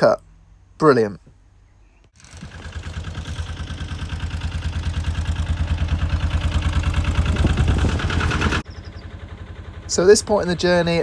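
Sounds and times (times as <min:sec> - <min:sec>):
boat engine running: 0:02.2 - 0:11.0.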